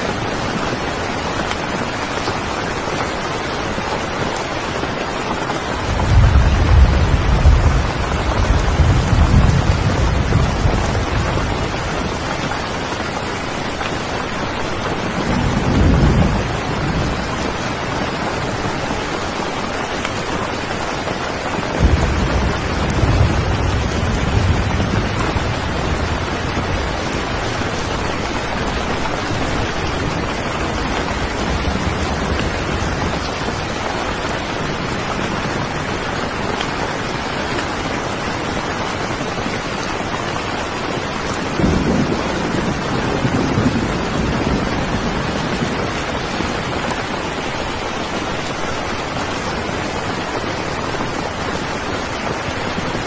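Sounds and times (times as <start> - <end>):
steady rain: 0.0 - 53.0
thunder rumbling: 5.6 - 53.0.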